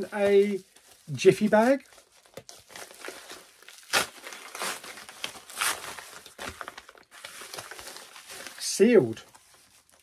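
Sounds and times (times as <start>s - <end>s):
padded bag crinkling and rustling: 0.0s - 10.0s.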